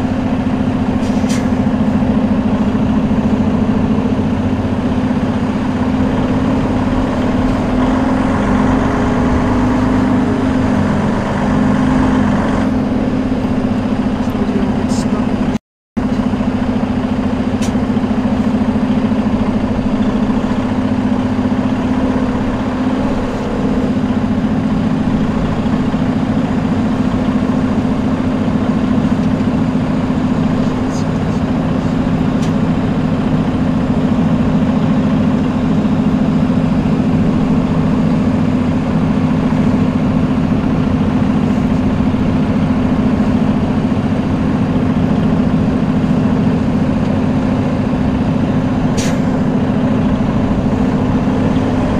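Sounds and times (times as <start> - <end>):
truck diesel engine running: 0.0 - 51.9.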